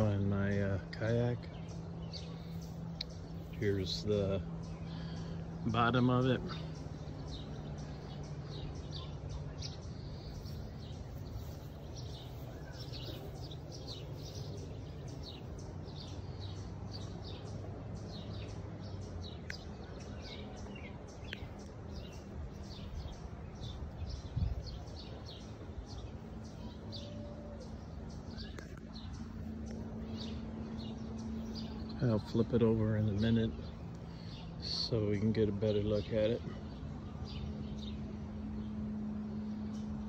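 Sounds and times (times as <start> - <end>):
birds chirping: 0.0 - 40.0
steady low hum: 0.0 - 40.0.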